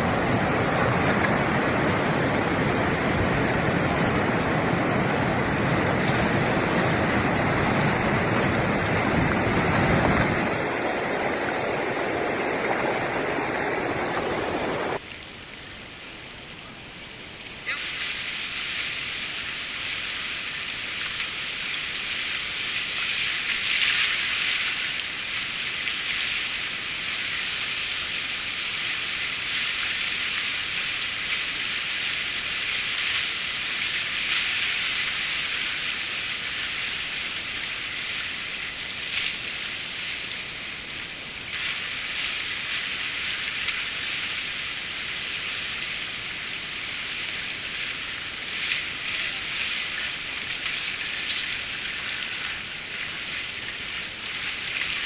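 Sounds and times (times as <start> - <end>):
river water rushing and splashing: 0.0 - 15.0, 17.8 - 55.0.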